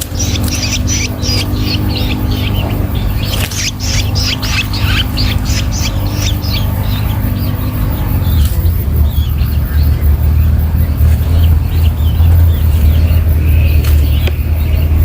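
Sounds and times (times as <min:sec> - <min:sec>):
steady low rumble: 0:00.0 - 0:15.0
young birds chirping: 0:00.0 - 0:15.0.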